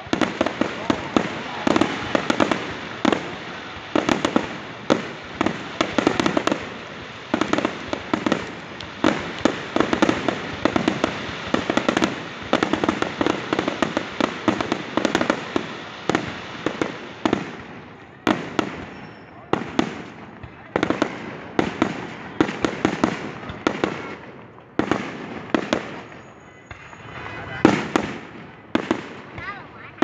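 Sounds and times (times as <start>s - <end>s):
fireworks bursting with sharp bangs: 0.0s - 30.0s
fireworks crackling: 0.0s - 30.0s.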